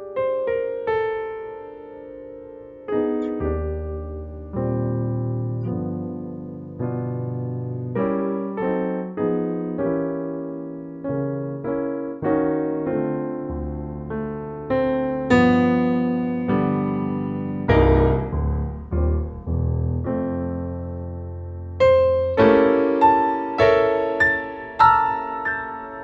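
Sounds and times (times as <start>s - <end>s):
slow solo piano music: 0.0s - 26.0s.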